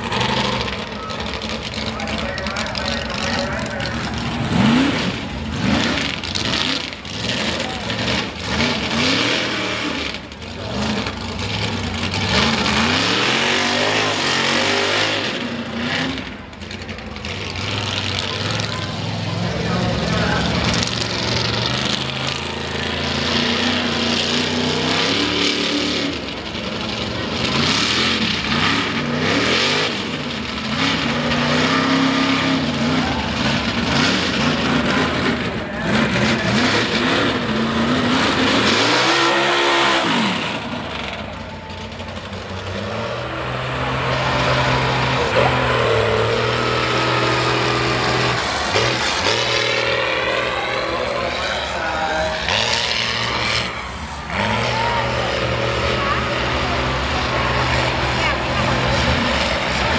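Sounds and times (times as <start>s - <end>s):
mud truck engines revving: 0.0s - 59.9s.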